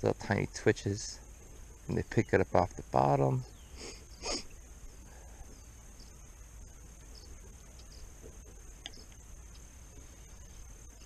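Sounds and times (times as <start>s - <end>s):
crickets trilling: 0.0s - 11.0s
low outdoor rumble: 0.0s - 11.0s.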